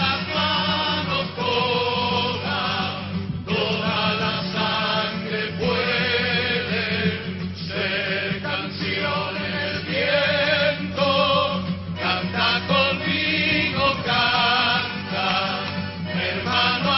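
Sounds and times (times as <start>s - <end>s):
choir singing a slow chant: 0.0s - 16.9s.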